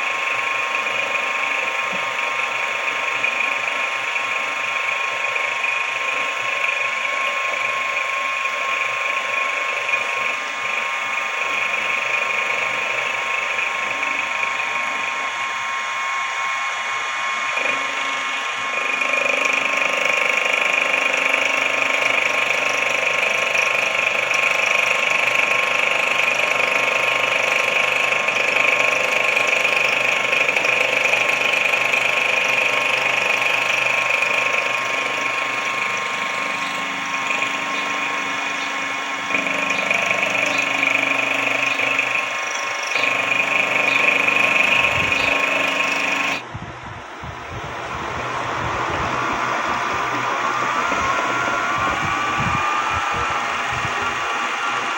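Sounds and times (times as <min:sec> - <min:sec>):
milling machine motor whine: 0:00.0 - 0:54.9.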